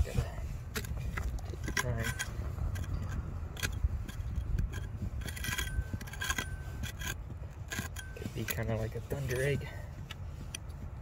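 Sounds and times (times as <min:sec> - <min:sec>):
metal tool scraping and tapping rock: 0:00.0 - 0:10.8
low rumble: 0:00.0 - 0:11.0.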